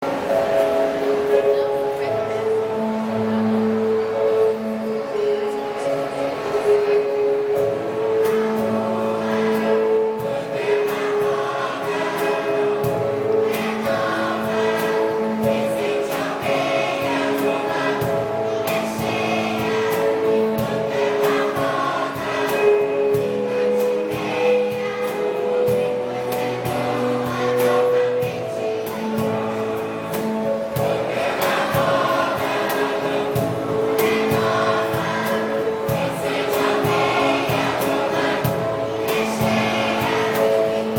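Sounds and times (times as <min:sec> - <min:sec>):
choir singing sustained notes: 0:00.0 - 0:40.9
musical accompaniment: 0:00.0 - 0:40.9.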